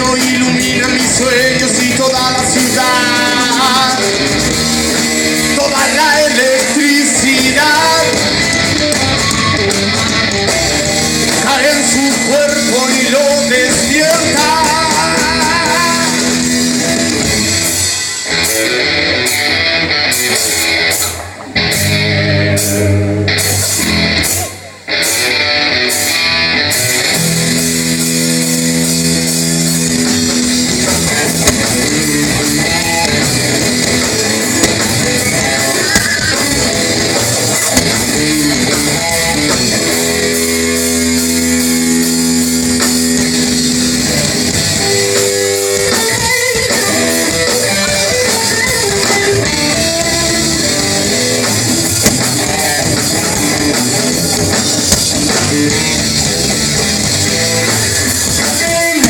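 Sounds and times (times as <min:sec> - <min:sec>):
rock band playing instrumental: 0:00.0 - 0:59.0.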